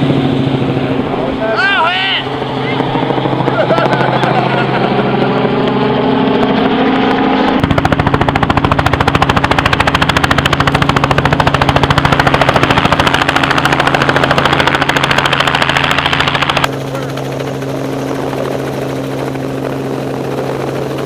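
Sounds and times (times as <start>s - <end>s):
helicopter running: 0.0s - 21.0s.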